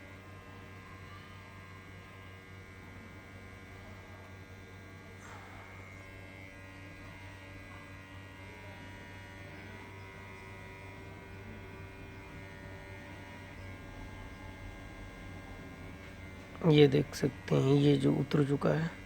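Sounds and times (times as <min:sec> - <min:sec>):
hot air station humming with whine: 0:00.0 - 0:19.0.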